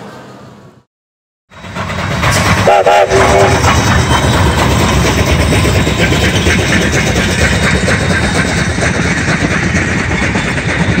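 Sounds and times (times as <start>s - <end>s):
steam locomotive rumble and hiss: 1.5s - 11.0s.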